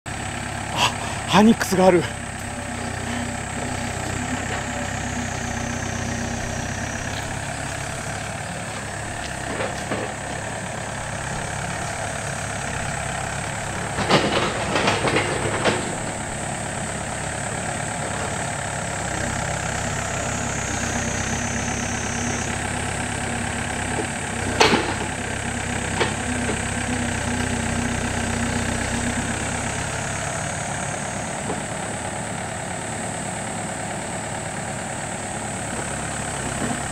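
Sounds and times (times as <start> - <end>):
diesel engine running: 0.1 - 36.9.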